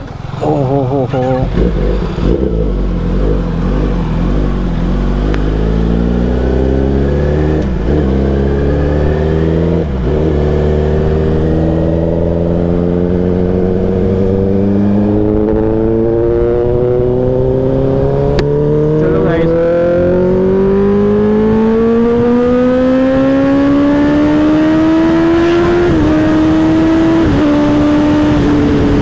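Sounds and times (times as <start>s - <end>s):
motorcycle engine accelerating loudly: 0.0s - 29.0s.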